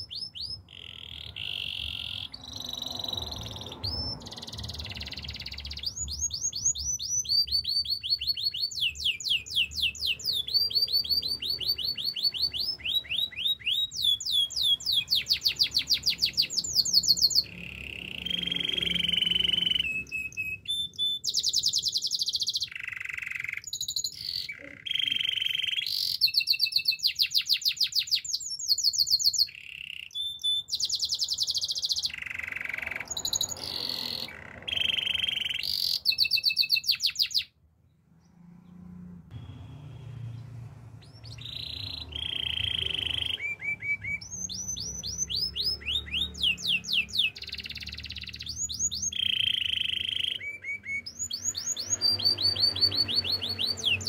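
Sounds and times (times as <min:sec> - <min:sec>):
canary singing rapid trills: 0:00.0 - 0:37.6, 0:41.0 - 0:54.0.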